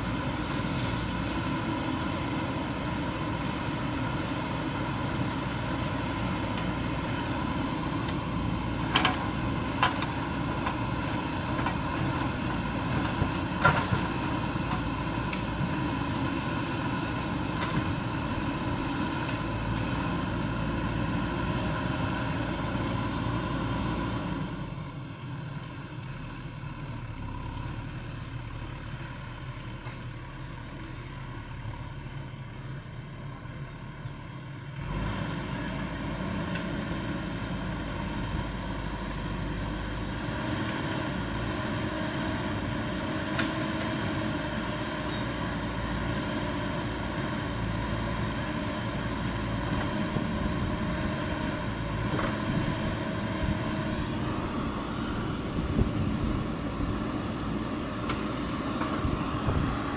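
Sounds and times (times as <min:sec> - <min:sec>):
backhoe diesel engine running: 0:00.0 - 0:59.9.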